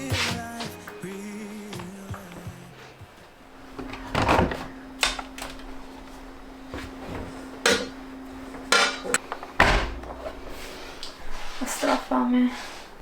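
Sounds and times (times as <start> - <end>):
faint steady hum: 0.8 - 13.0.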